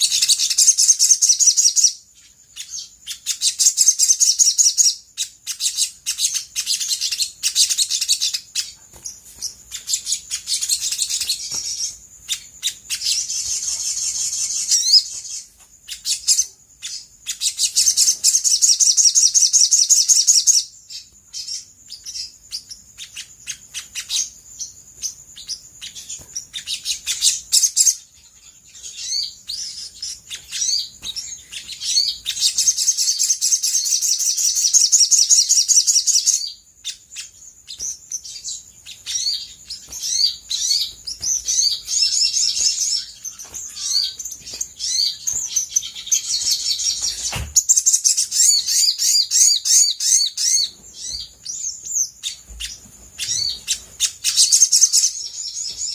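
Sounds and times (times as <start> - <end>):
bird singing trills and chirps: 0.0 - 55.9.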